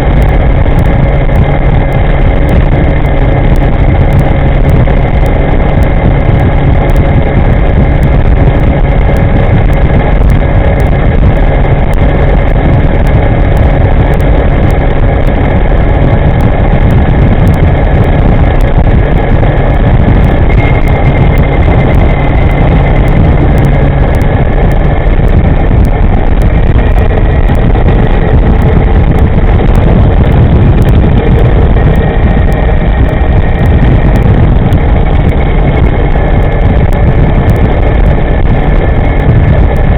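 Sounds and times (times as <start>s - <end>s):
faint electric motor whine: 0.0s - 39.9s
wind rumble on microphone: 0.0s - 39.9s.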